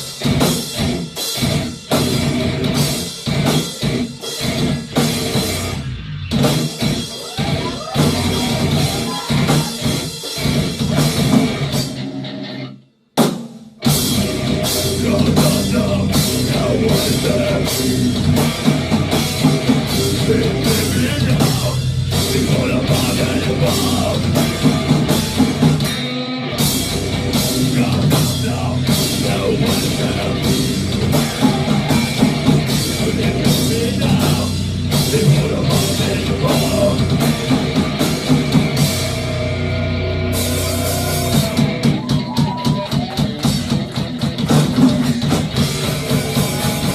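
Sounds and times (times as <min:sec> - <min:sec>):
drum kit beat: 0:00.0 - 0:12.2, 0:13.1 - 0:46.9
rock band playing live: 0:00.0 - 0:46.9.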